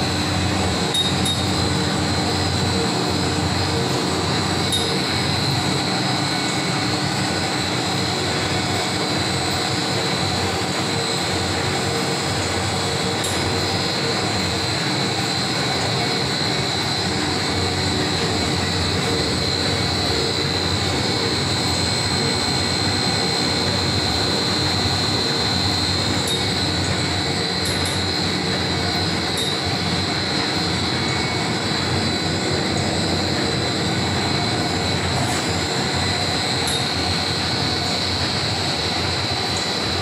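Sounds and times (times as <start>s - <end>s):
machine mechanical drone: 0.0s - 40.0s
steady high whine: 0.0s - 40.0s.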